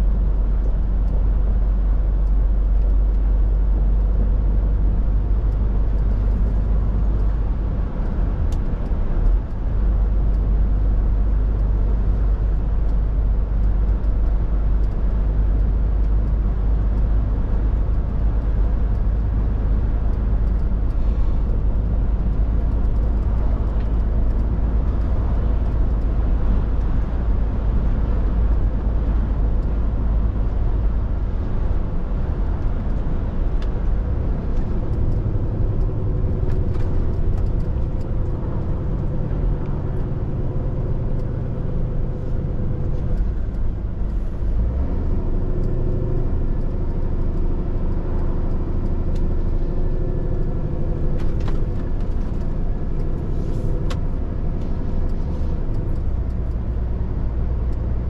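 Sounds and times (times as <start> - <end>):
lorry diesel engine drone: 0.0 - 58.0
road noise: 0.0 - 58.0.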